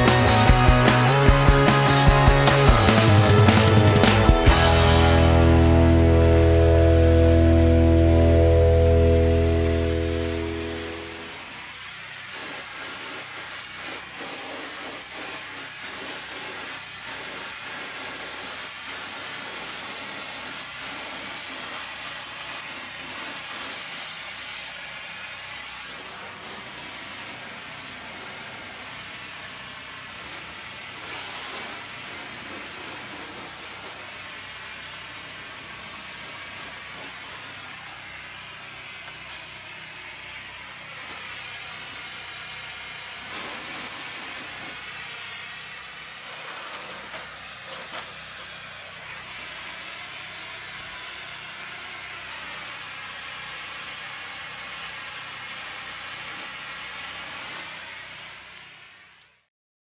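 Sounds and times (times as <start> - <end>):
pressure washer engine running: 0.0 - 59.1
water spray hissing on canvas: 3.8 - 59.5.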